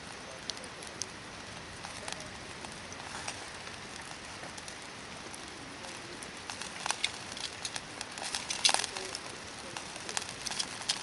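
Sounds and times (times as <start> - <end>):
campfire hissing: 0.0 - 11.0
fire crackles: 0.0 - 11.0.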